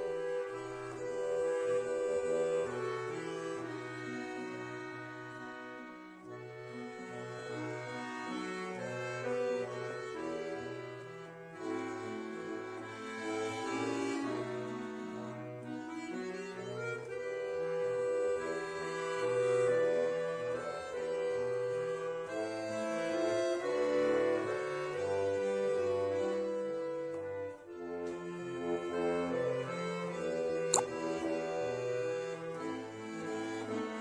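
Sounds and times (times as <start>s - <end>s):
button accordion playing: 0.0s - 34.0s.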